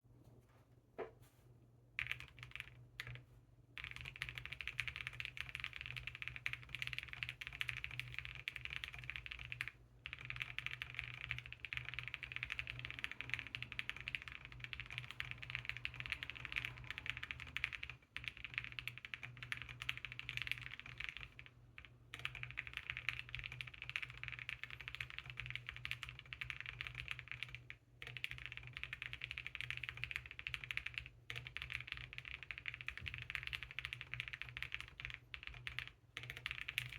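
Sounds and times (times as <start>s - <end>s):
mechanical keyboard typing: 2.0s - 3.2s, 3.8s - 36.9s.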